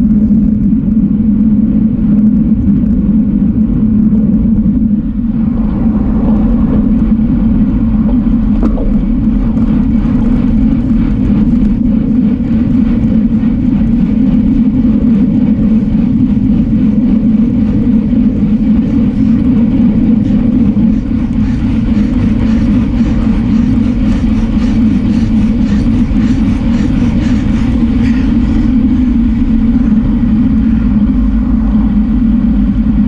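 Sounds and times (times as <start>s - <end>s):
wind on microphone: 0.0s - 33.0s.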